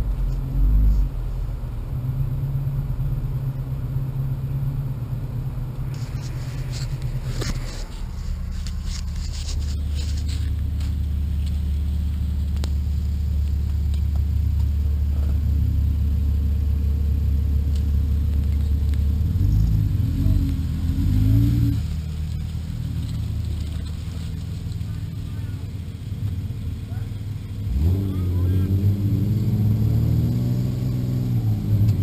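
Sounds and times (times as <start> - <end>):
engine rumbling low: 0.0 - 32.0.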